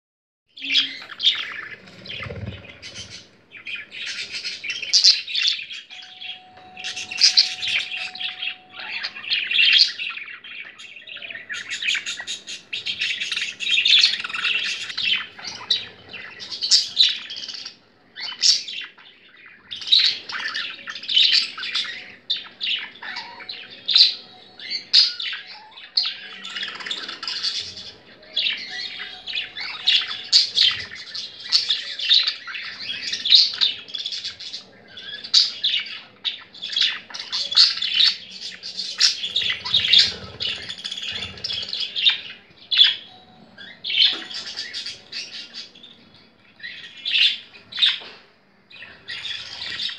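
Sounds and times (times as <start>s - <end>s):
budgerigars chirping: 0.6s - 48.1s, 48.7s - 49.9s.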